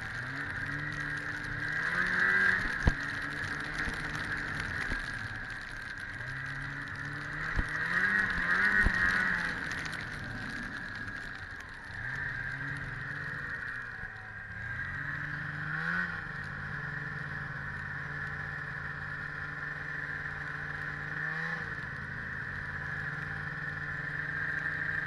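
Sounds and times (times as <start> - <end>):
snowmobile engine running: 0.0 - 25.0.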